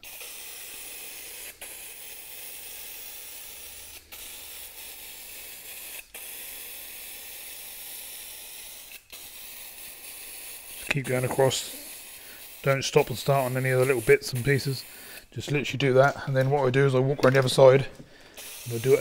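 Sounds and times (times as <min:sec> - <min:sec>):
spray paint can hissing: 0:00.0 - 0:16.5, 0:18.4 - 0:19.0.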